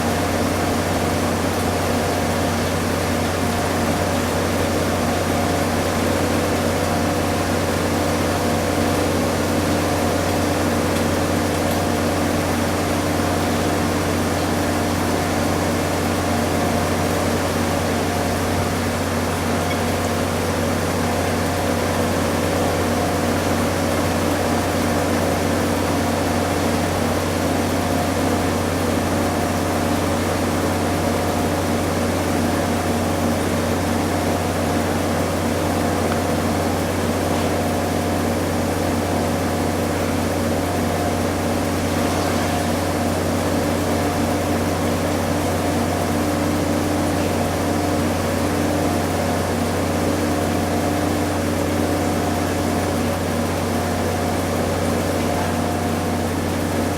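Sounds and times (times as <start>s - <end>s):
washing machine spinning: 0.0s - 56.9s.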